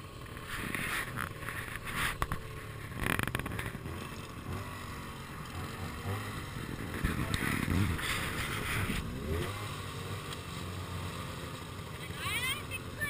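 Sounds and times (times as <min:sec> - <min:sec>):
snowmobile engines idling: 0:00.0 - 0:13.0.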